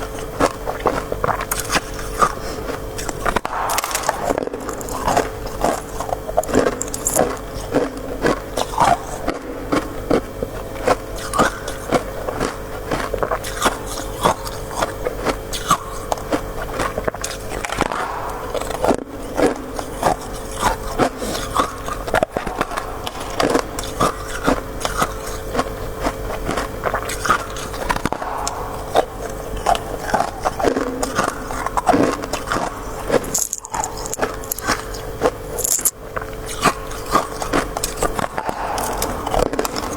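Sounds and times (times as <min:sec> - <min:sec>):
ice crunching in chewing: 0:00.0 - 0:39.9
steady low hum: 0:00.0 - 0:39.9.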